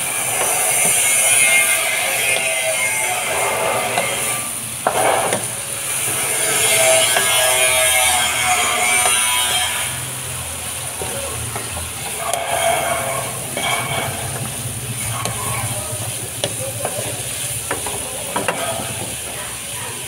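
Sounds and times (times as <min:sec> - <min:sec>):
wooden spatula scraping a pan: 0:00.0 - 0:19.8
food sizzling in a pan: 0:00.0 - 0:20.0.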